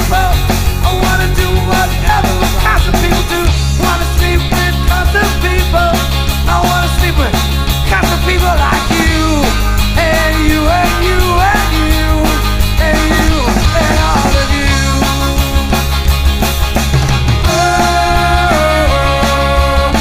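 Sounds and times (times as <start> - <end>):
bass: 0.0 - 20.0
bending lead melody: 0.0 - 20.0
drums: 0.0 - 20.0.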